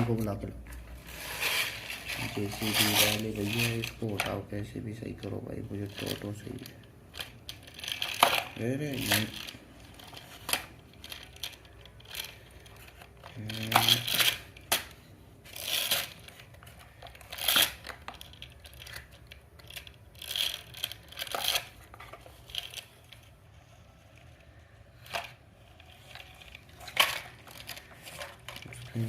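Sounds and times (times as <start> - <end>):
plastic toys scraping and clacking: 0.0 - 29.0.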